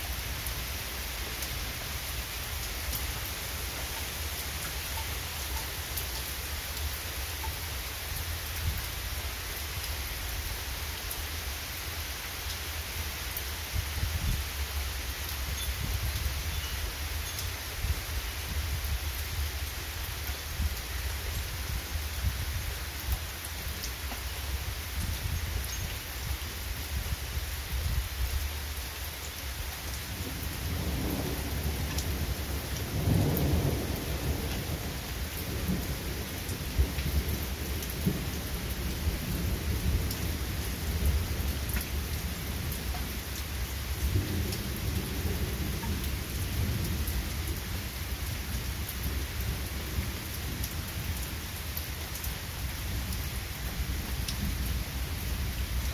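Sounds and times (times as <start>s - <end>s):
rain falling on grass and trees: 0.0s - 55.9s.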